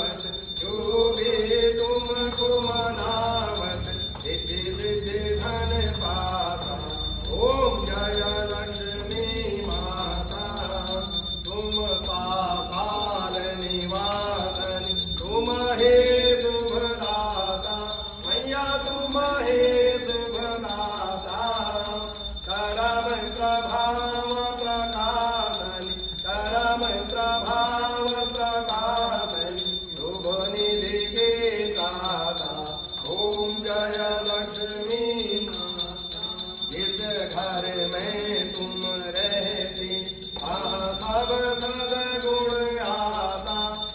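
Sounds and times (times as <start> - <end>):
man chanting mantras: 0.0 - 43.9.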